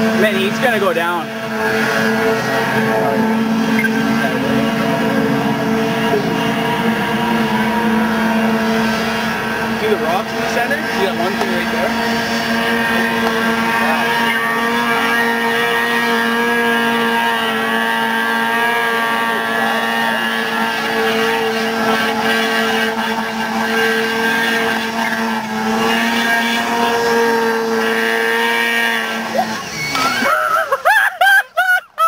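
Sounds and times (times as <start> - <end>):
snowmobile engine running: 0.0 - 32.0.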